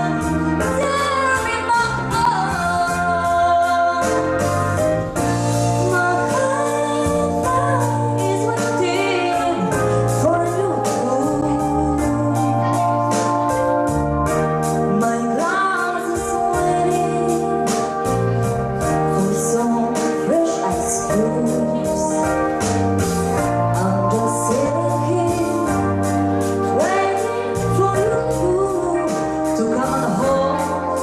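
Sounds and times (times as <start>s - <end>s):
organ-like keyboard chords: 0.0s - 31.0s
woman singing into microphone: 0.0s - 31.0s.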